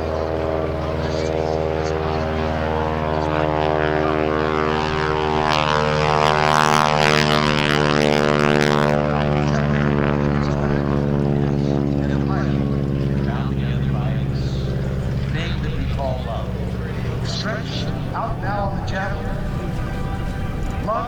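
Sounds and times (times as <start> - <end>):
biplane engine droning: 0.0 - 21.0.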